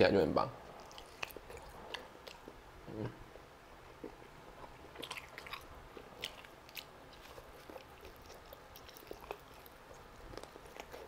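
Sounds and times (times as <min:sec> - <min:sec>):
chewing and biting meat: 0:00.7 - 0:02.6, 0:03.9 - 0:11.0.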